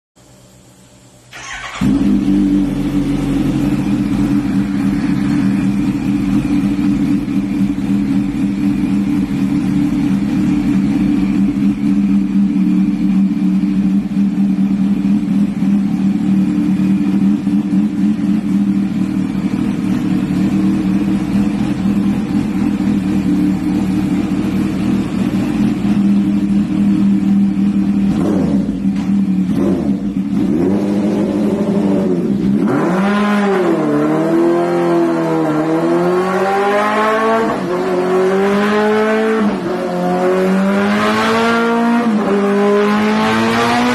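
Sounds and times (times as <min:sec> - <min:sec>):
motorcycle engine on dynamometer: 0:01.3 - 0:43.9.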